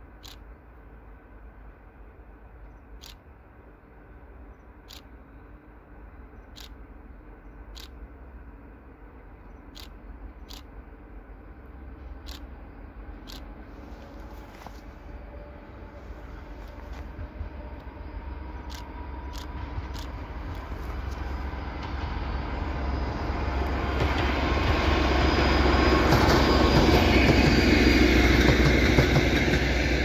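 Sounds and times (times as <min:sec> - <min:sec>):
distant diesel locomotive rumble: 0:00.0 - 0:30.0.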